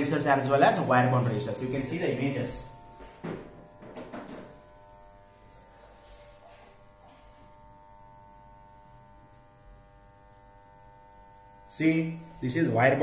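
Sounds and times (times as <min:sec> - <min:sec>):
electrical buzz: 0:00.0 - 0:13.0.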